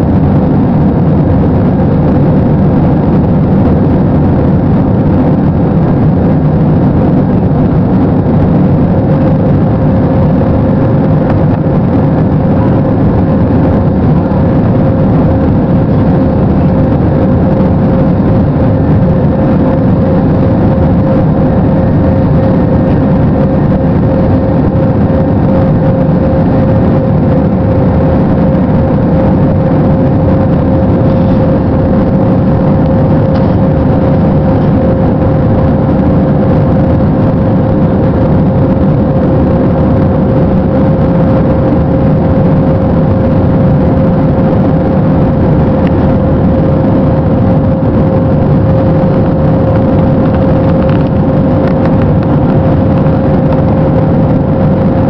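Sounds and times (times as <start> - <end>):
jet engines during takeoff: 0.0 - 55.0.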